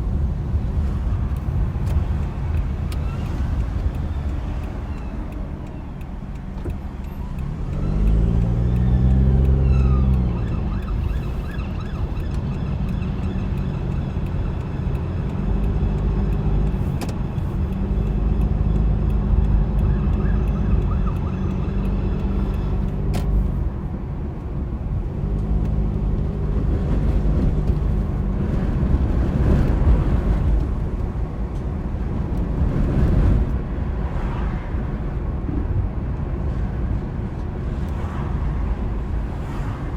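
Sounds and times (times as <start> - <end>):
car engine accelerating: 0.0 - 36.2
tyre road noise: 0.0 - 39.9.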